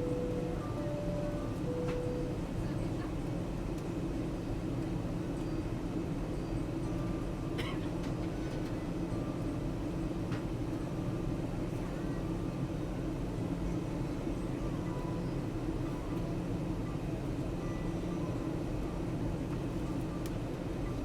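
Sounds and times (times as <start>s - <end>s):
jet engines and airflow drone: 0.0s - 21.0s.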